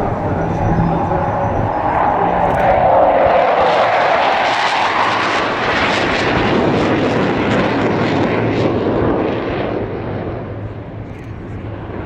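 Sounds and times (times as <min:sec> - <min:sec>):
aircraft engine flying past: 0:00.0 - 0:12.0.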